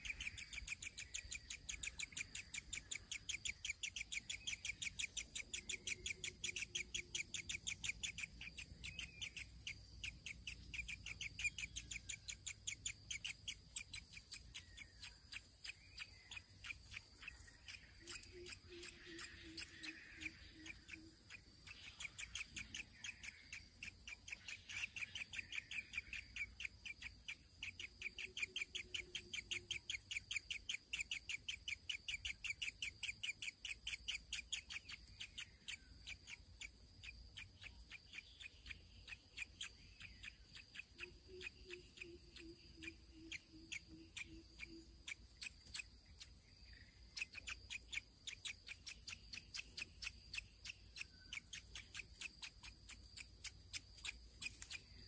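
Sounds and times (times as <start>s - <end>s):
nestling begging chirps: 0.0s - 55.0s.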